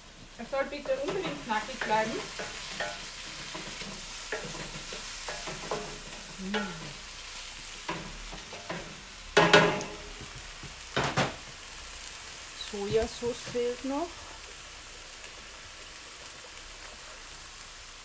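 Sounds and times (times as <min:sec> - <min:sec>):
utensil scraping and knocking wok: 0:00.0 - 0:17.4
food sizzling in a wok: 0:00.0 - 0:18.0.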